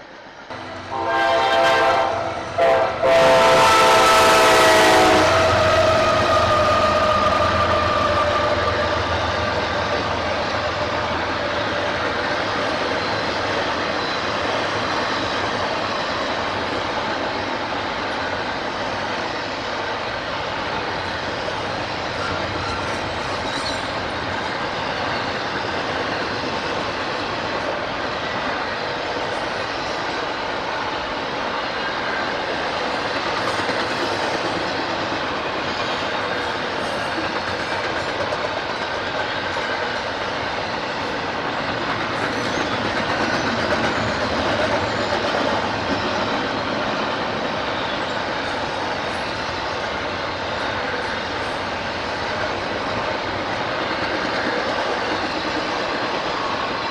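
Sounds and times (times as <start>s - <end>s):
train wheels running on rail: 0.0s - 56.9s.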